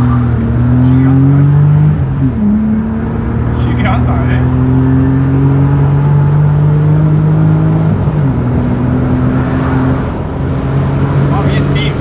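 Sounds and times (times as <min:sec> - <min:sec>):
car engine running in cabin: 0:00.0 - 0:12.0.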